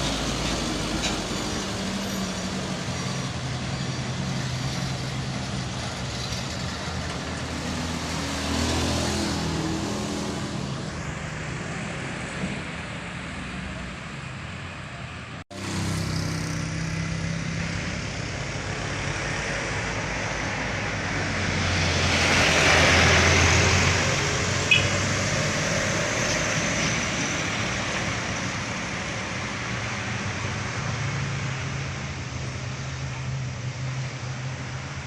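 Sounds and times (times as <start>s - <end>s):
heavy truck diesel engines: 0.0s - 35.0s
tyre and road noise: 0.0s - 35.0s.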